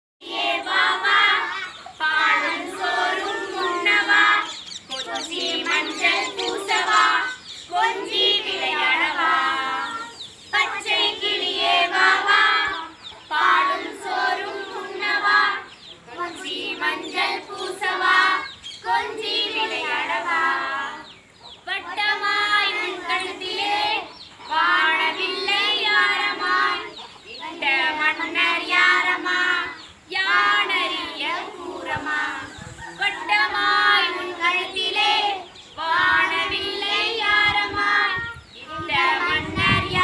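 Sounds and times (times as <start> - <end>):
children and woman singing: 0.2 - 40.0.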